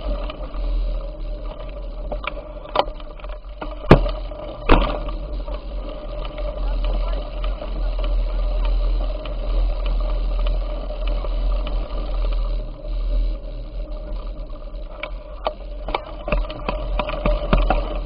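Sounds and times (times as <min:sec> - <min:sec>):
bicycle clicks and rattles: 0:00.0 - 0:12.8, 0:13.5 - 0:18.0.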